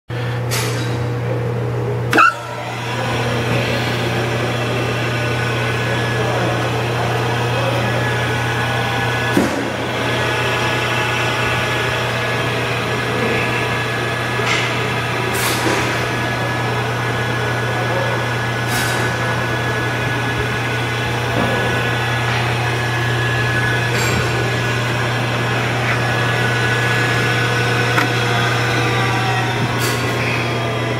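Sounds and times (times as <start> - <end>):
electric motor humming and whining: 1.1 - 30.9.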